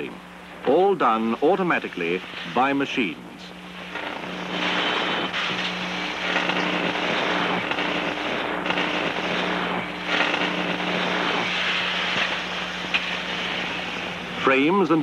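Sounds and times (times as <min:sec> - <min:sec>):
electrical hum: 0:00.0 - 0:15.0
welding machines crackling and hissing: 0:00.0 - 0:15.0.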